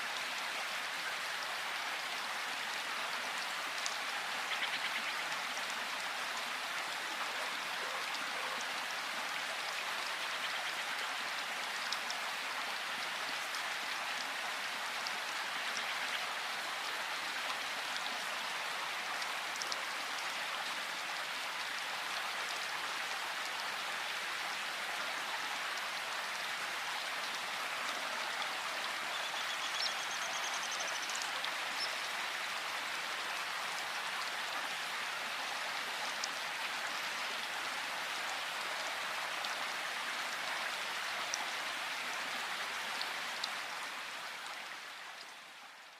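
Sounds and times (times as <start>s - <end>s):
rain falling through forest: 0.0s - 45.9s.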